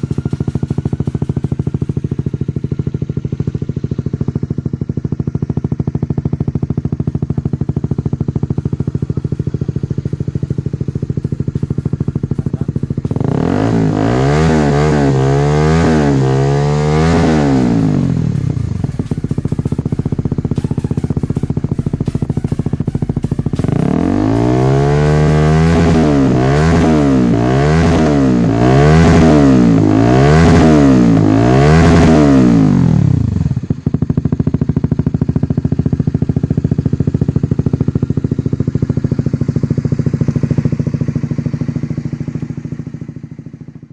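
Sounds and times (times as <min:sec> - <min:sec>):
engine revving: 0:00.0 - 0:43.9
motorcycle engine idling: 0:00.0 - 0:43.9.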